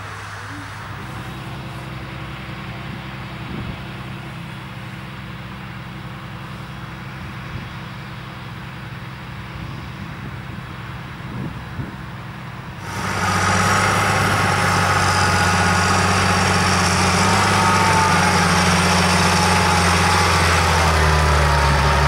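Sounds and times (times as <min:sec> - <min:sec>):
tractor diesel engine droning: 0:00.0 - 0:22.0.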